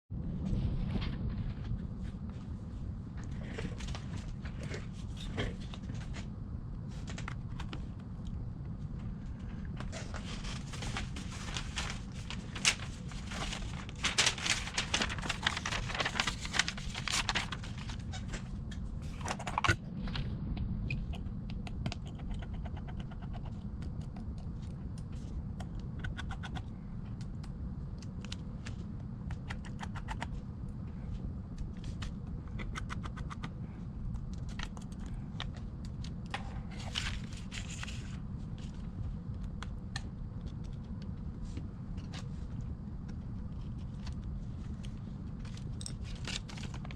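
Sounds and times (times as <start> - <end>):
steady low hum: 0.1 - 46.9.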